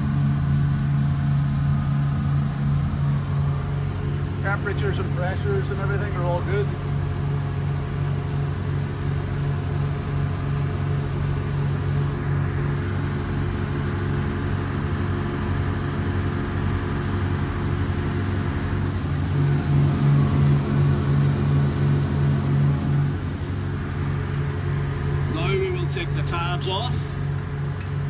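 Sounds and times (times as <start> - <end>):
boat diesel engines droning: 0.0 - 28.0
water rushing along hull: 0.0 - 28.0.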